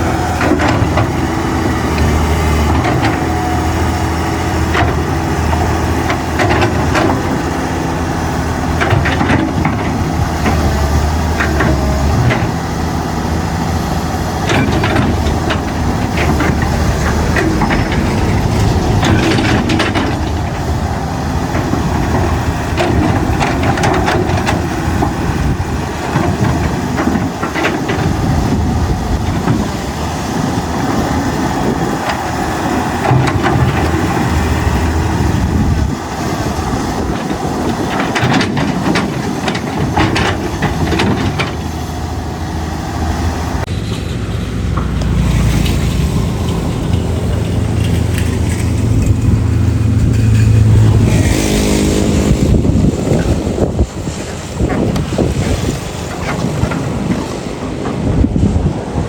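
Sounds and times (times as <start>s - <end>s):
excavator diesel engine running: 0.0s - 59.0s
knocks and scraping: 0.0s - 59.0s.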